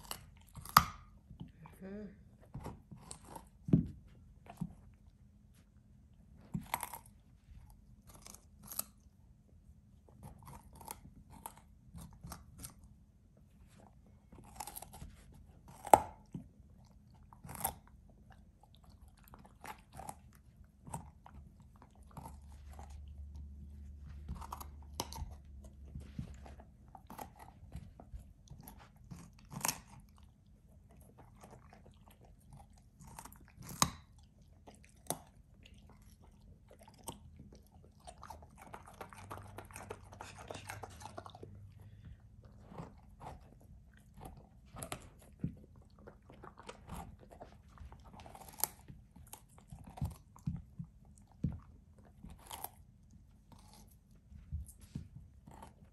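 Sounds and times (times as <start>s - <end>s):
puppy crunching carrot: 0.0s - 1.6s, 2.4s - 55.9s.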